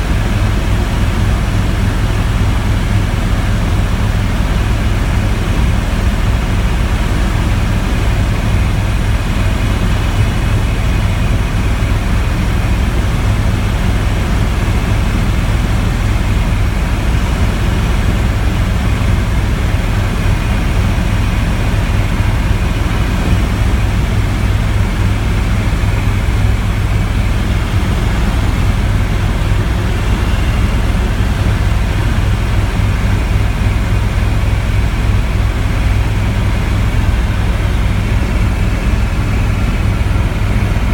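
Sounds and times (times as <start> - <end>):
helicopter engine and rotor rumble: 0.0 - 40.9.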